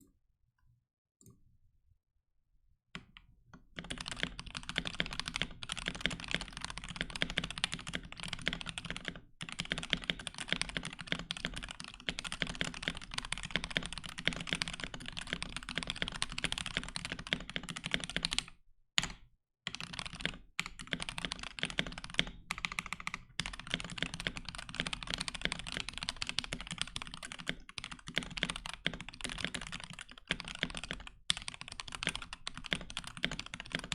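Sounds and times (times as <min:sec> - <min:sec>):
fast mechanical keyboard typing: 0:03.8 - 0:18.5, 0:19.7 - 0:33.9.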